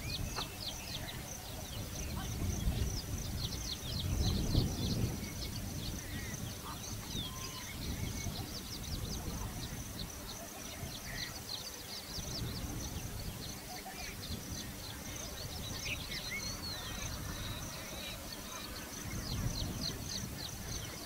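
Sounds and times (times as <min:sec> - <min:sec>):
birds chirping: 0:00.0 - 0:21.0
steady high-pitched hum: 0:00.0 - 0:21.0.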